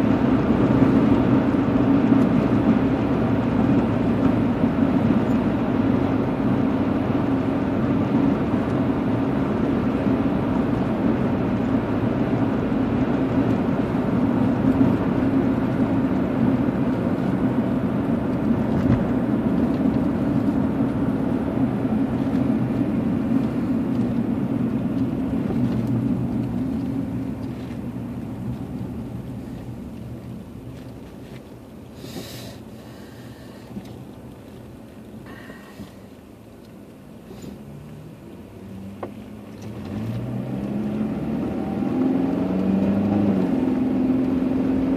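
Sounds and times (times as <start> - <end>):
car road and tyre rumble: 0.0 - 44.9.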